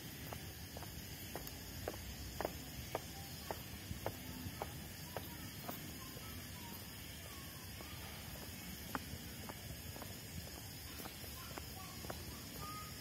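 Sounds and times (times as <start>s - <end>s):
footsteps on stone paving: 0.0s - 13.0s
steady background hiss: 0.0s - 13.0s.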